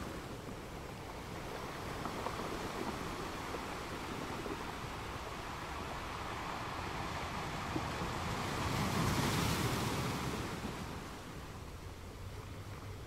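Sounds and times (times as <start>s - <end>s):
rushing wind and water: 0.0s - 13.0s.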